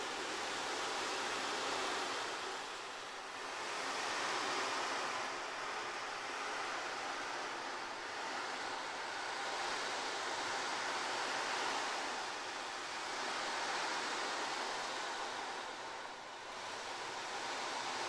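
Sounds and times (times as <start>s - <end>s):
soft steady rushing noise: 0.0s - 18.0s.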